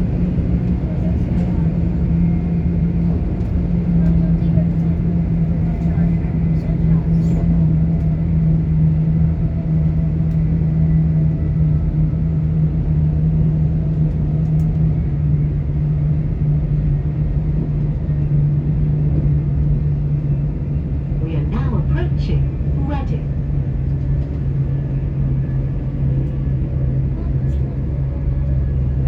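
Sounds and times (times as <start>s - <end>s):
train cabin rumble and hum: 0.0s - 29.0s.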